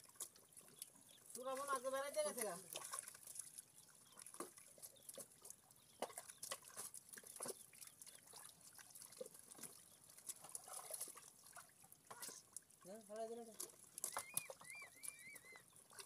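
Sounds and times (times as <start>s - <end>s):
short splats and clicks: 0.0s - 16.0s
small water splashes: 0.0s - 16.0s.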